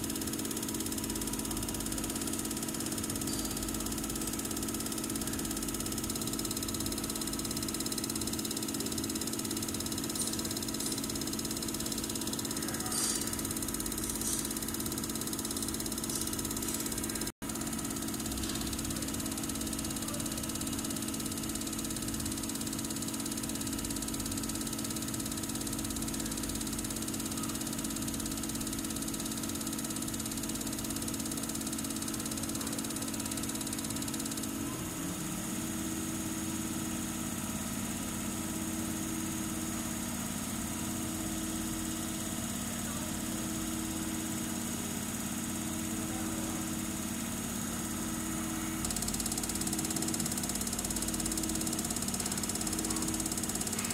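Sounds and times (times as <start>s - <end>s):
test bench mechanical hum: 0.0s - 53.9s.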